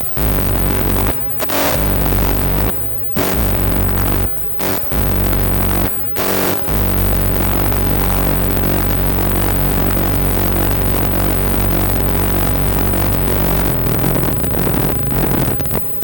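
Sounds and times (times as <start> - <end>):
electronic synthesizer music: 0.0 - 14.0.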